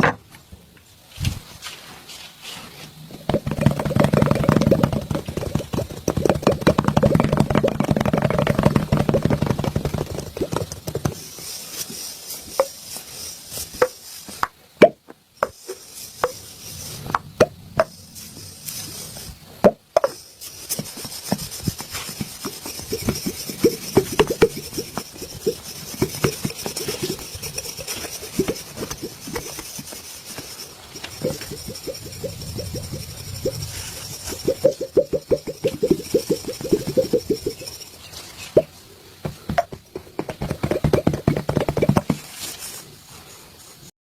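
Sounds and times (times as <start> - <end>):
hands rubbing skin: 1.3 - 14.4, 20.4 - 42.9.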